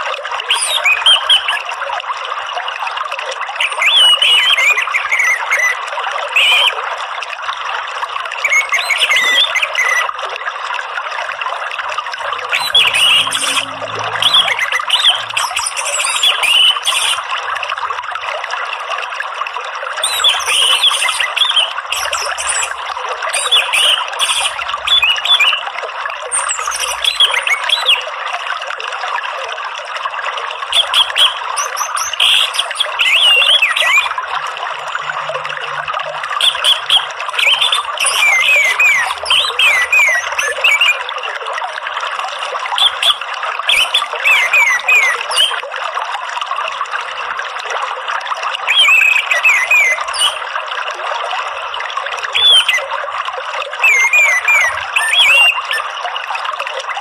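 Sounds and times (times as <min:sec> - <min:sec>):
running water trickling: 0:00.0 - 0:57.0.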